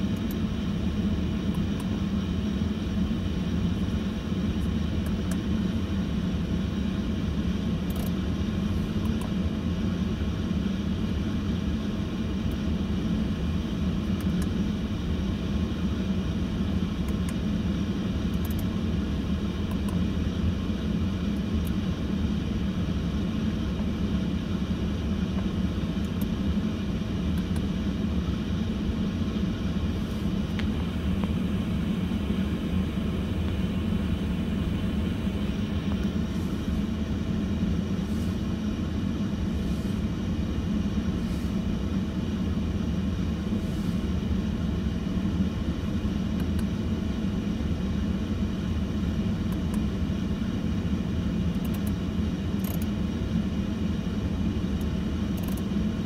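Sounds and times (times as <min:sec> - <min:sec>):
car engine idling: 0:00.0 - 0:50.5.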